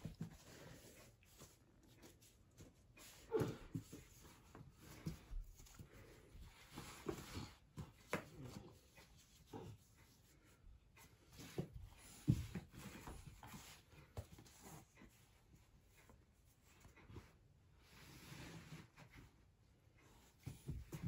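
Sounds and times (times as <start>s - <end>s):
soft knocks and rustles of toys: 0.0s - 21.0s.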